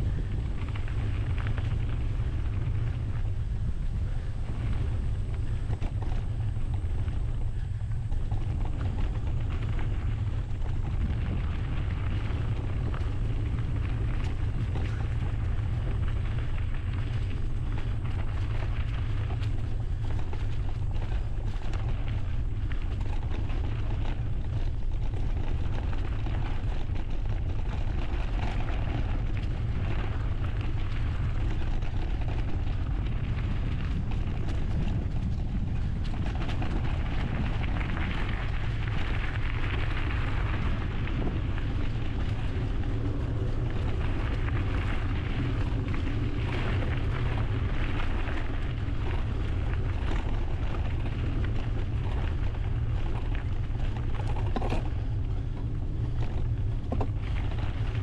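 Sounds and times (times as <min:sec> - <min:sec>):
bike clicks and rattles: 0:00.0 - 0:58.0
bike tyre noise: 0:00.0 - 0:58.0
wind buffeting microphone: 0:00.0 - 0:58.0.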